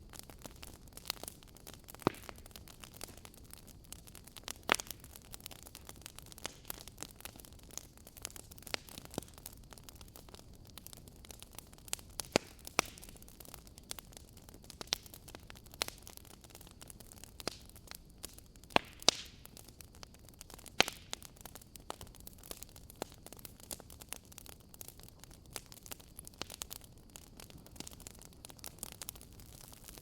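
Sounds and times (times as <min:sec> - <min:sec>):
faint steady hiss: 0:00.0 - 0:30.0
wood fire crackling: 0:00.0 - 0:30.0.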